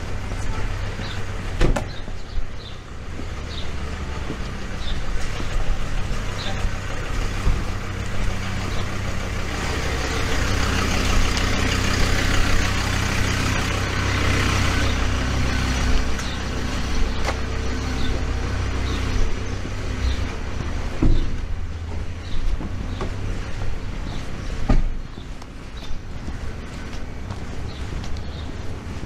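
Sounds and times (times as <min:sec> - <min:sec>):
traffic noise: 0:00.0 - 0:29.0
vehicle engine running: 0:00.0 - 0:29.0.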